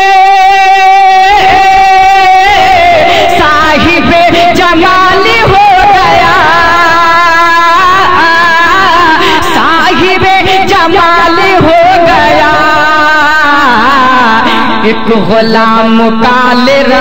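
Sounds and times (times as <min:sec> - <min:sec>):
person singing without words: 0:00.0 - 0:17.0.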